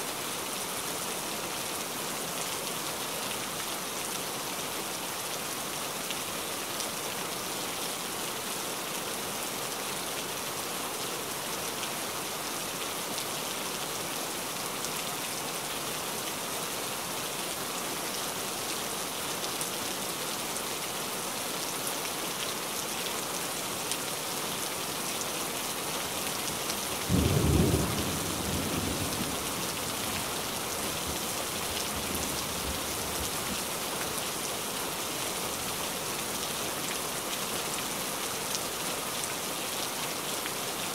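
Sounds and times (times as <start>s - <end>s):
rain falling and splashing: 0.0s - 40.9s.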